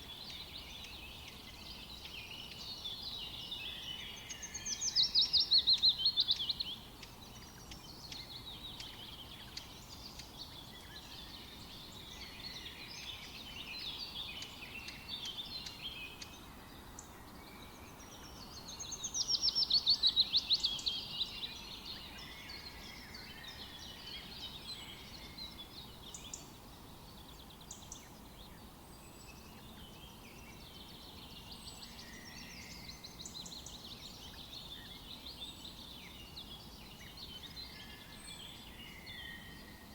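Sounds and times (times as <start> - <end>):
bird song of fast repeated notes: 0.0 - 39.9
songbirds chirping and singing: 0.0 - 39.9.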